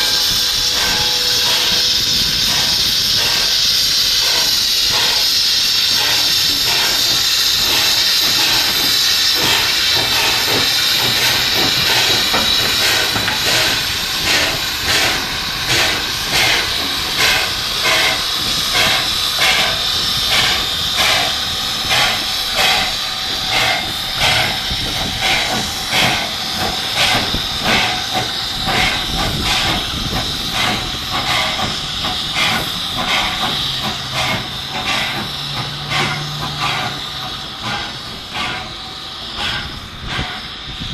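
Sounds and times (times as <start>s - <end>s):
locomotive exhaust chuffs: 0.0s - 40.9s
steam hissing: 0.0s - 40.9s.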